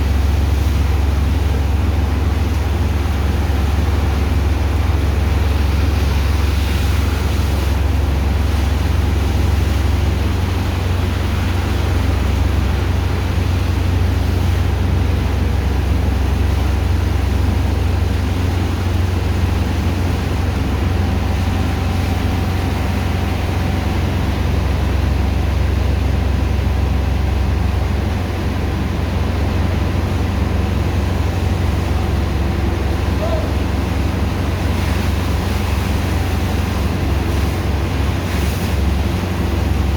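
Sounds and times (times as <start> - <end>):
pump engine droning: 0.0 - 39.9.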